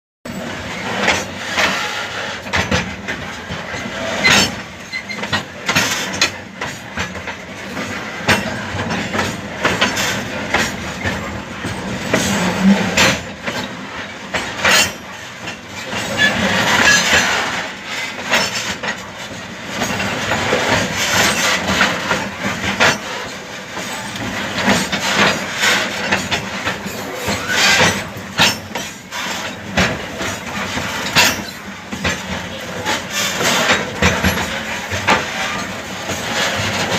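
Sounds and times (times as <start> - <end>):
model train wheels clicking: 0.4 - 36.9.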